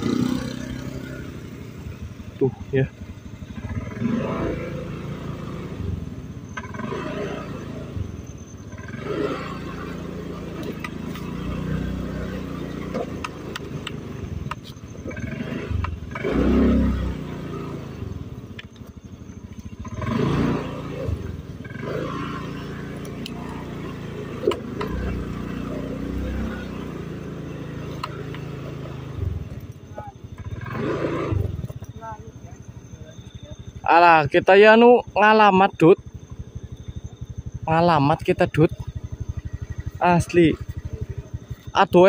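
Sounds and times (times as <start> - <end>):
scooter engine revving: 0.0 - 42.0.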